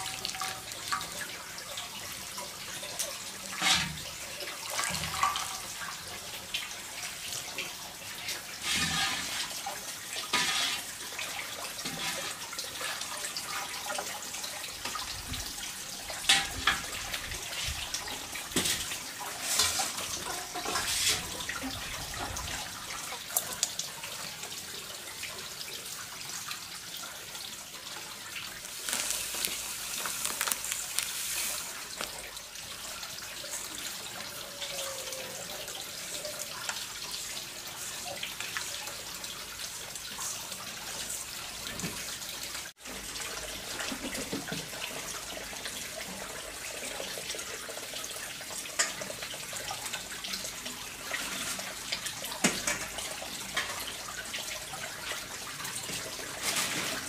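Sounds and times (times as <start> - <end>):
running water splashing: 0.0 - 57.0.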